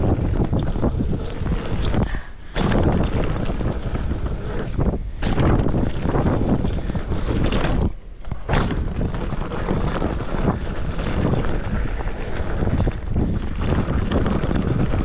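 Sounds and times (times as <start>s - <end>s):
wind buffeting microphone: 0.0s - 15.0s
bike knocks and thuds: 2.5s - 15.0s.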